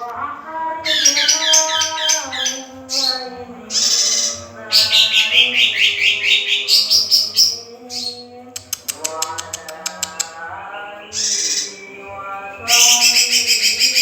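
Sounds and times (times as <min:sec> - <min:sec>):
bird singing: 0:00.0 - 0:14.0.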